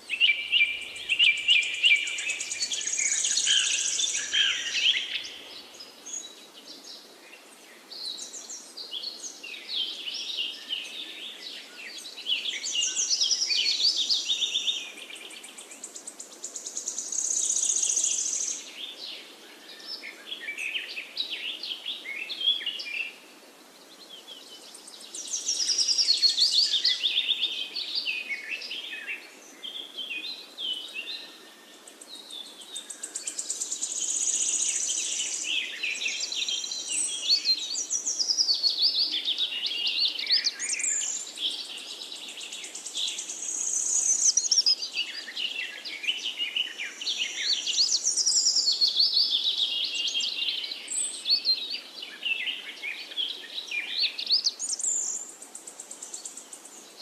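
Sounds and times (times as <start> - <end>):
small birds chirping and singing: 0.0 - 57.0.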